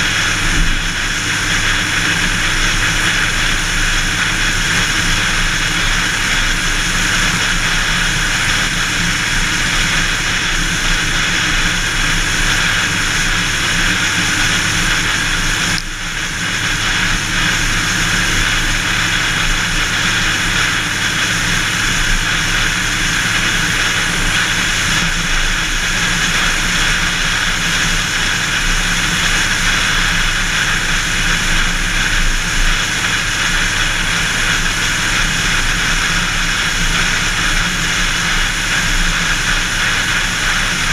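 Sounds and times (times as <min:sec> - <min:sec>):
car wind and road noise: 0:00.0 - 0:40.9.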